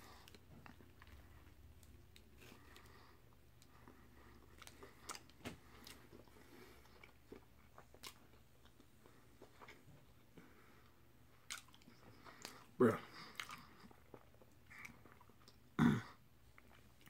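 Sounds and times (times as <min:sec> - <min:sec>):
person chewing: 0:00.0 - 0:15.8, 0:16.4 - 0:17.0.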